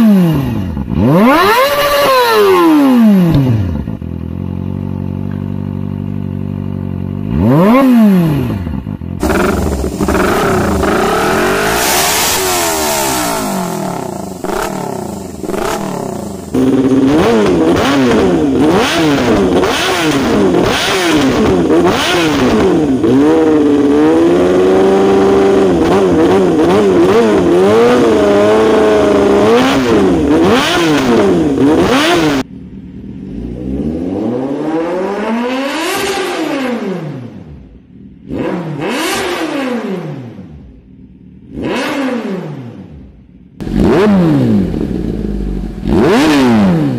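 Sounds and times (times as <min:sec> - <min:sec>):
motorcycle engines revving: 0:00.0 - 0:46.9.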